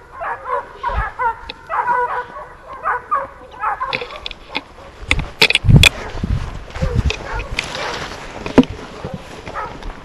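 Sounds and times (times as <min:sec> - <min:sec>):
dogs barking: 0:00.0 - 0:06.2, 0:06.8 - 0:08.2, 0:08.9 - 0:09.8.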